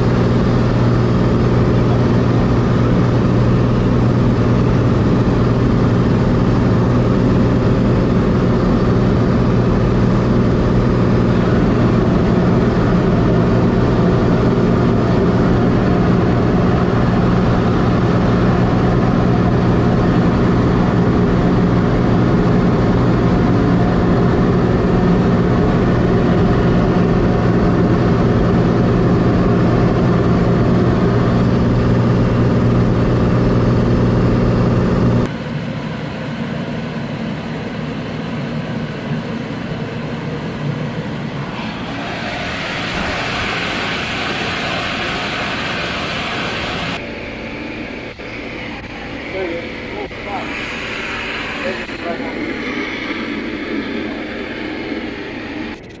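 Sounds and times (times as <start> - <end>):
engine drone: 0.0 - 56.0.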